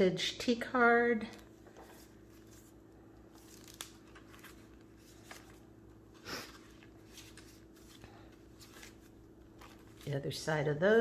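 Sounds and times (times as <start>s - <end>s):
faint steady hum: 0.0s - 11.0s
paper pages rustling: 1.3s - 11.0s.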